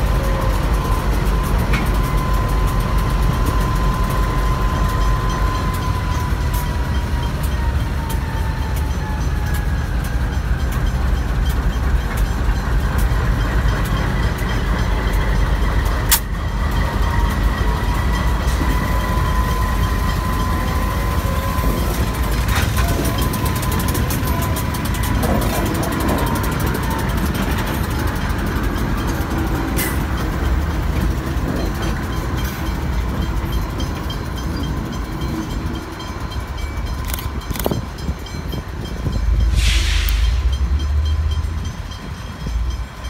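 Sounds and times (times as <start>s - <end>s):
diesel locomotive engine rumble: 0.0s - 43.0s.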